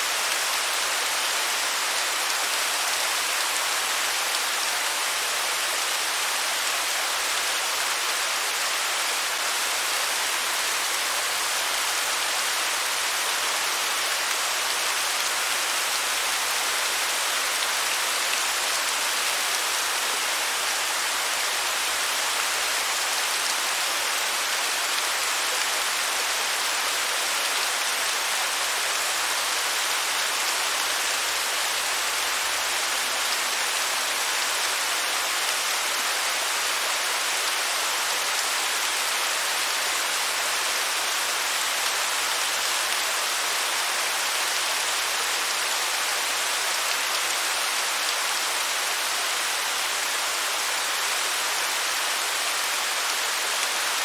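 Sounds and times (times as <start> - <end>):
waterfall hissing: 0.0 - 54.0.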